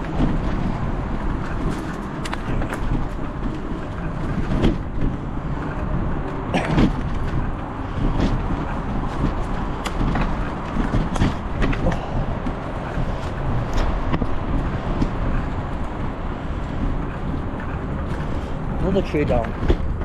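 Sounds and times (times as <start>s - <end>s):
bike clicks and rattles: 0.0s - 20.0s
wind and tyres rumbling: 0.0s - 20.0s.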